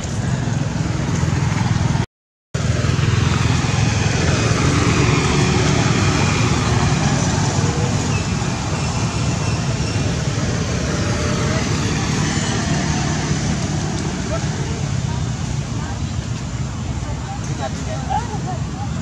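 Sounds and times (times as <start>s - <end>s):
loud outdoor rumble: 0.0s - 2.0s, 2.6s - 19.0s.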